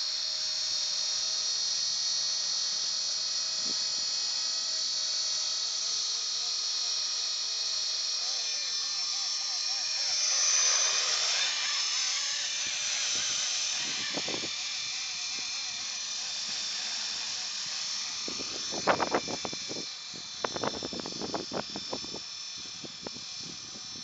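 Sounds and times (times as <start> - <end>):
model helicopter whine: 0.0 - 24.0.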